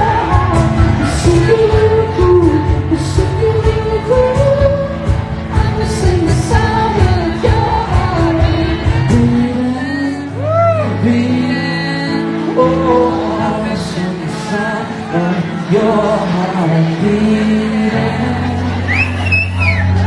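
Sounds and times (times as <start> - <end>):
person singing: 0.0 - 20.0
pop band playing: 0.0 - 20.0.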